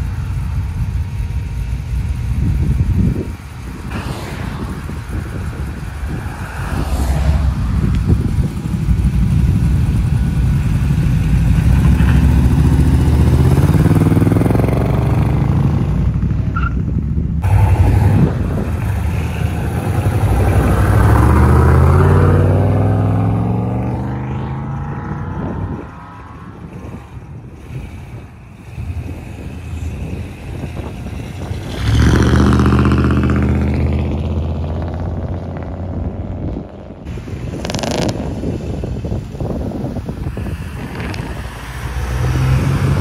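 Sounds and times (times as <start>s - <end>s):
vehicle engine accelerating: 0.0s - 43.0s.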